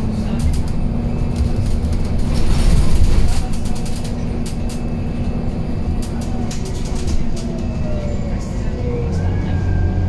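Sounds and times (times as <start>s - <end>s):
bus engine hum and rumble: 0.0s - 10.0s.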